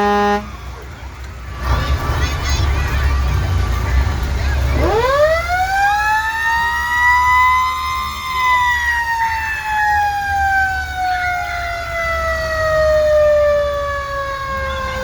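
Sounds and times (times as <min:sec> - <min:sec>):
fire engine siren wailing: 0:00.0 - 0:01.8, 0:03.2 - 0:15.0
truck engine rumble: 0:00.0 - 0:15.0.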